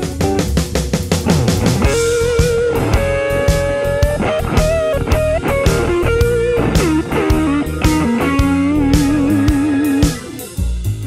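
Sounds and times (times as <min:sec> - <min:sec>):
electric guitar lead with bends: 0:00.0 - 0:11.0
steady drum beat: 0:00.0 - 0:11.0.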